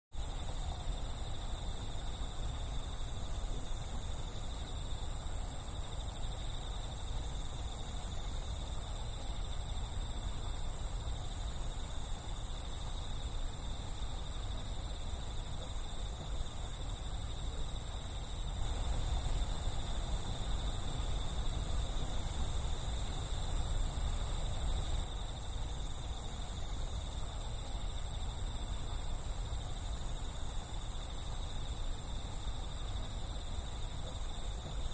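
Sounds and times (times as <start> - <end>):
crickets and insects trilling: 0.1 - 34.9.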